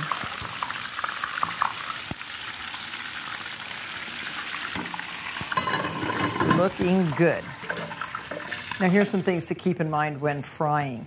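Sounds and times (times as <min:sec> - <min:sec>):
chicken frying in hot oil: 0:00.0 - 0:09.2.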